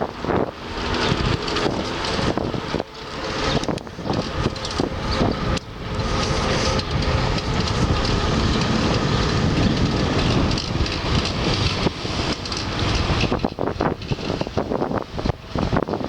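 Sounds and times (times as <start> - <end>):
vehicle rumbling in motion: 0.0 - 16.0.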